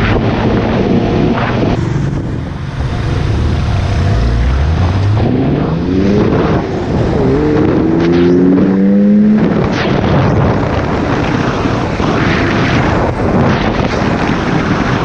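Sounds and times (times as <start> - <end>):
wind and road noise: 0.0 - 15.0
motorcycle engine accelerating: 0.2 - 14.8.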